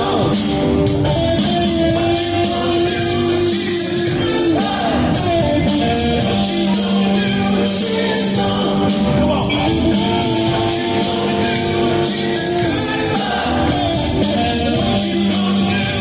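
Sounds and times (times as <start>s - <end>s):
live rock band playing: 0.0s - 16.0s
person singing: 0.0s - 16.0s.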